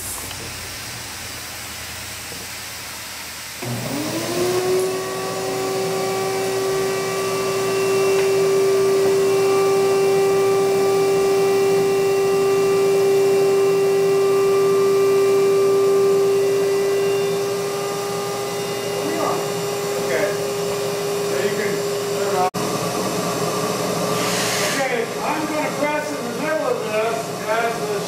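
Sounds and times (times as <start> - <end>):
shop vac motor whining: 0.0 - 28.0.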